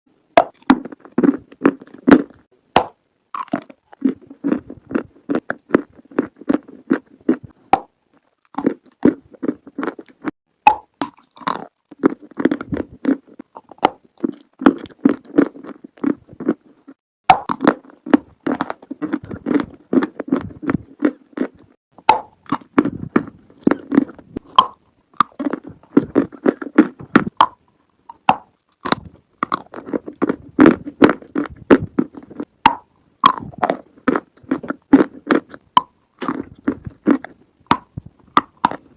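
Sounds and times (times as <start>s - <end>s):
crunchy chewing: 0.4s - 38.9s.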